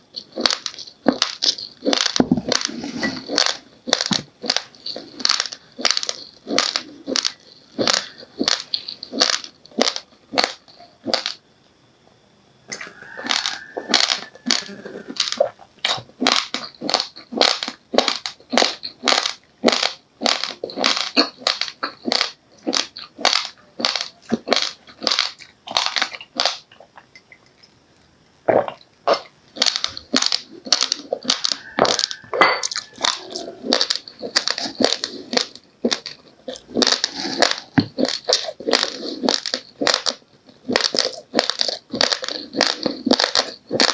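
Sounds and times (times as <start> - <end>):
chewing raw rice crunching: 0.0 - 11.4, 12.7 - 27.1, 28.5 - 43.9.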